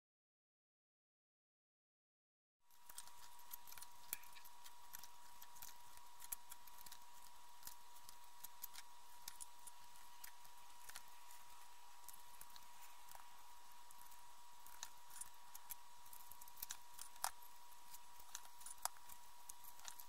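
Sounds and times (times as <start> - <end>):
steady thin whine: 2.8 - 20.0.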